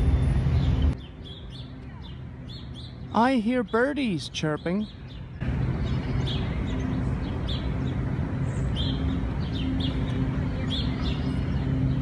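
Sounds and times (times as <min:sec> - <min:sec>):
small birds chirping: 0:00.5 - 0:12.0.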